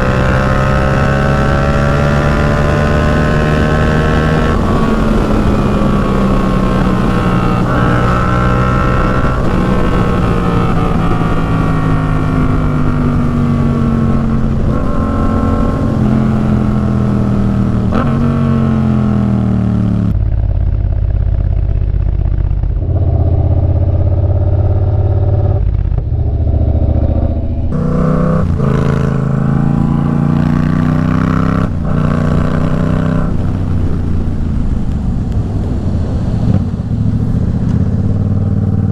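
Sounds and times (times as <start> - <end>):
motorcycle engine through gears: 0.0 - 38.9.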